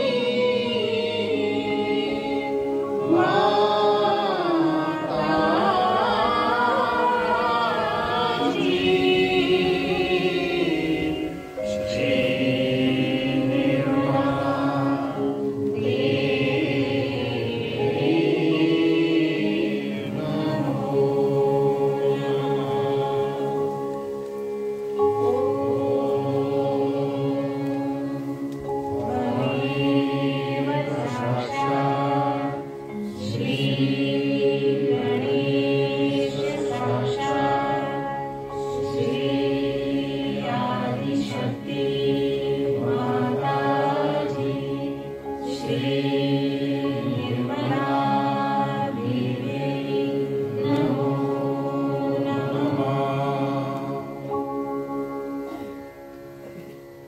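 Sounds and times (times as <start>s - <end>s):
group chanting: 0.0s - 24.2s, 24.9s - 54.7s.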